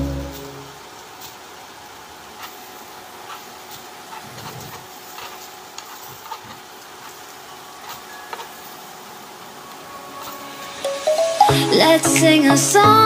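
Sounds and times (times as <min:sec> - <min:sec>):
fritters sizzling in oil: 0:00.0 - 0:11.0.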